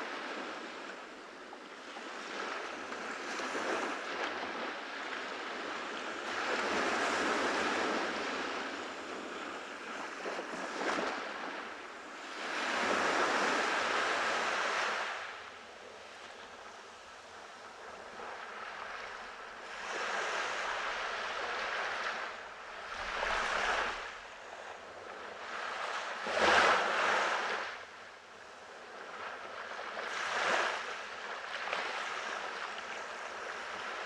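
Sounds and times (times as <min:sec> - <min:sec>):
ocean waves breaking on a beach: 0:00.0 - 0:34.0.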